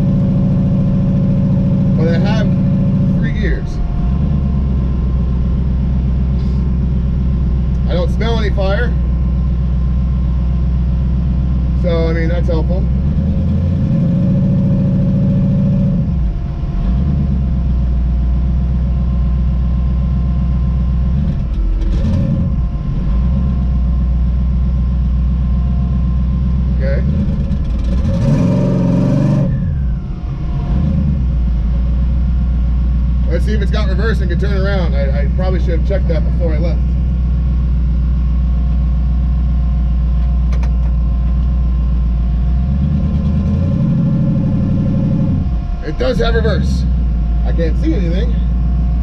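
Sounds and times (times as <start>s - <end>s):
car engine droning while driving: 0.0s - 49.0s.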